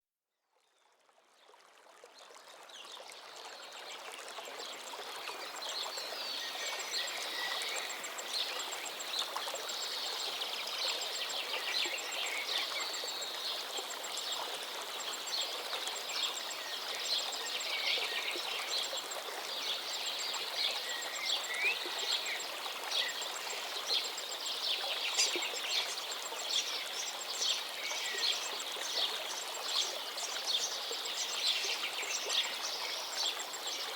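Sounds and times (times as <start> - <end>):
running water rushing: 1.5 - 33.9.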